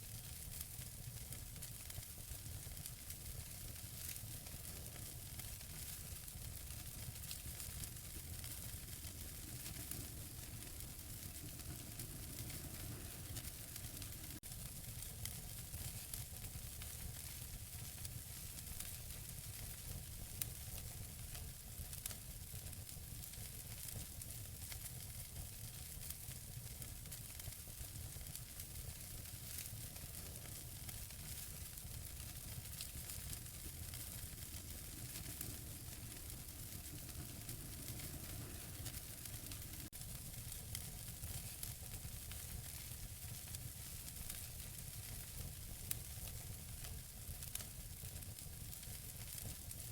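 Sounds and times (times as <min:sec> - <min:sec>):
burning logs crackling and popping: 0:00.1 - 0:49.9
fire hissing: 0:01.4 - 0:20.8, 0:25.8 - 0:47.6.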